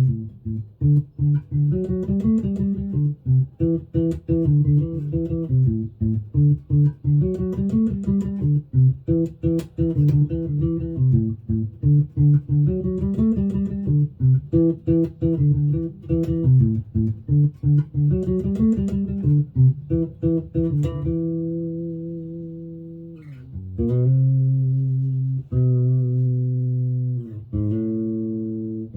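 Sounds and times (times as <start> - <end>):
electric bass plucked notes: 0.0 - 28.9.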